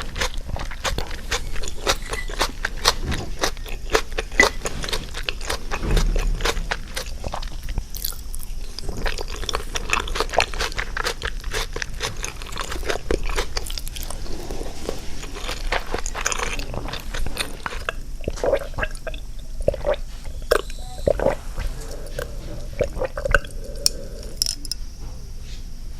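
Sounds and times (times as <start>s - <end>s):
close chewing and crunching: 0.0s - 24.6s.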